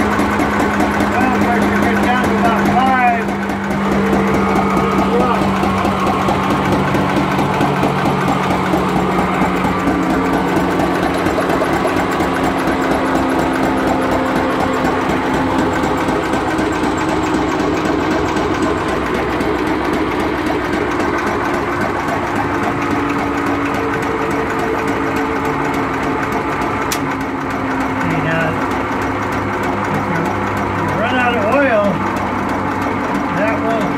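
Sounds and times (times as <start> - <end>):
stationary engine running: 0.0 - 33.9.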